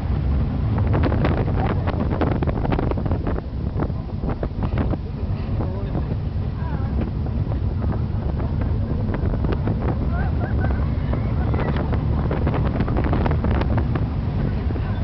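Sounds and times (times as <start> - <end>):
roller coaster train rumbling: 0.0 - 15.0
wind buffeting microphone: 0.0 - 15.0.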